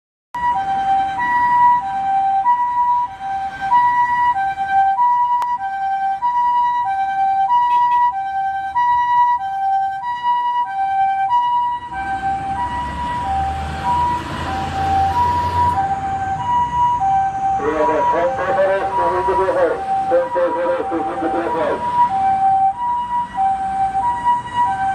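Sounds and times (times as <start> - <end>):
ambulance hi-lo siren: 0.4 - 24.9
vehicle and road noise: 0.4 - 24.9.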